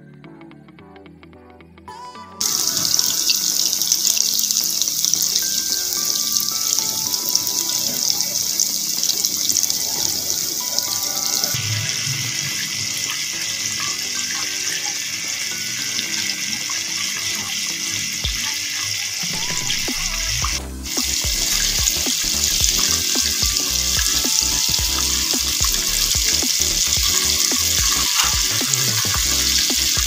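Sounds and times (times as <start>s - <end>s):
chicken deep-frying in oil: 2.4s - 30.0s.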